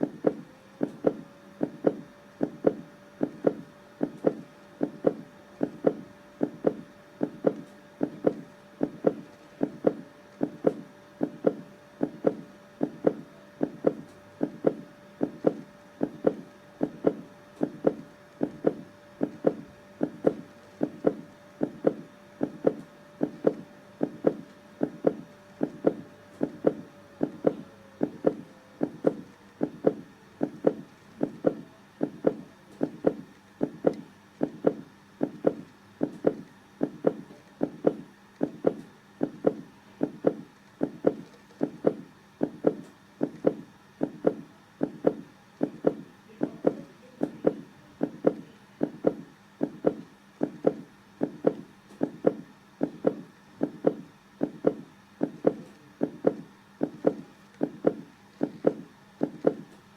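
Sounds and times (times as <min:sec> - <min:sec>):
heartbeat thumps: 0:00.0 - 0:59.7.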